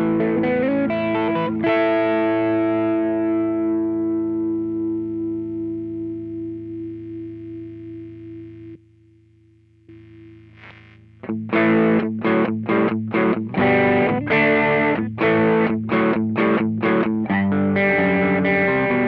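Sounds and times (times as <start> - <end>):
overdriven electric guitar: 0.0 - 8.8, 9.9 - 19.0.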